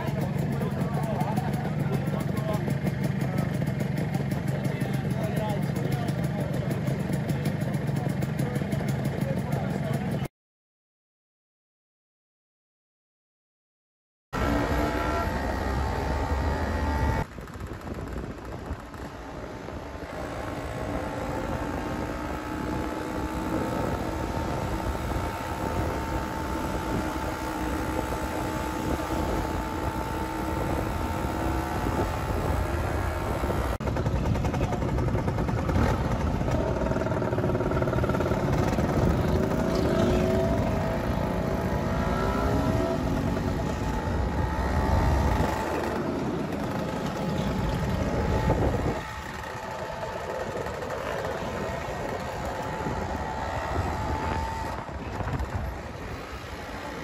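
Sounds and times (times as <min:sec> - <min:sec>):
scooters and motorcycles passing: 0:00.0 - 0:10.3, 0:14.4 - 0:57.0.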